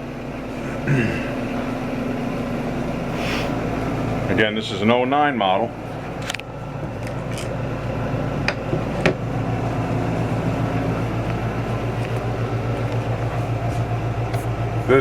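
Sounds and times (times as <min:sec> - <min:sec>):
low pulsing mechanical hum: 0:00.0 - 0:15.0.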